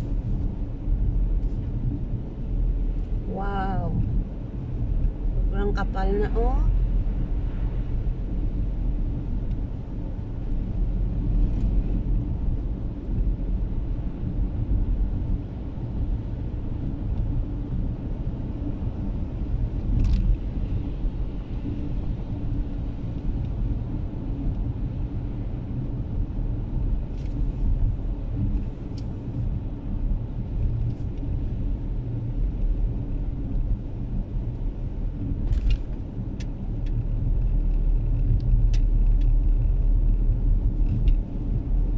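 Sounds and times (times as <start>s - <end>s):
car engine and tyres rumbling: 0.0s - 41.9s.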